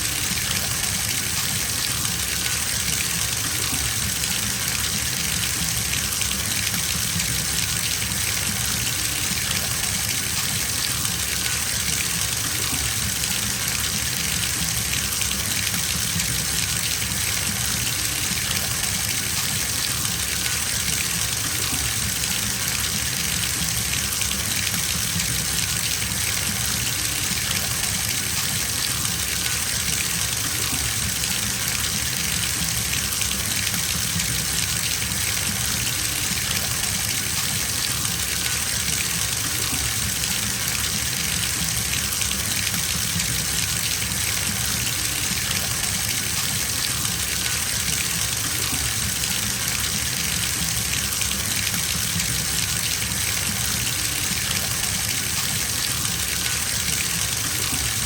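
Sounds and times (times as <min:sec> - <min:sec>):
water gushing from a bathtub tap: 0:00.0 - 0:58.0.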